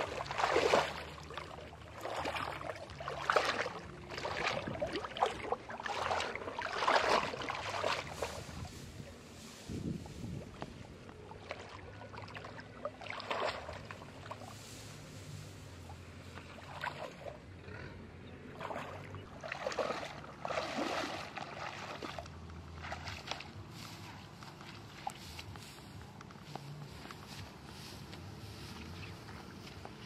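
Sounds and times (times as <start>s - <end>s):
footsteps wading through muddy water: 0.0s - 17.6s, 18.2s - 30.0s.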